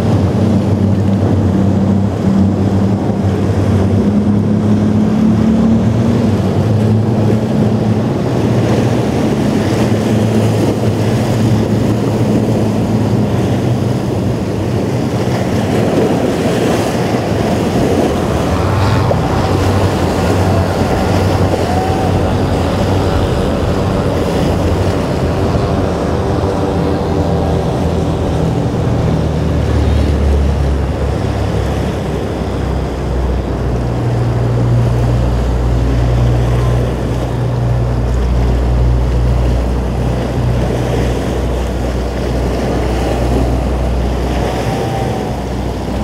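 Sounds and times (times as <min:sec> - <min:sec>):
boat engine hum: 0:00.0 - 0:46.0
waves washing: 0:00.0 - 0:46.0
wind buffeting microphone: 0:00.0 - 0:46.0
higher engine note: 0:00.1 - 0:46.0.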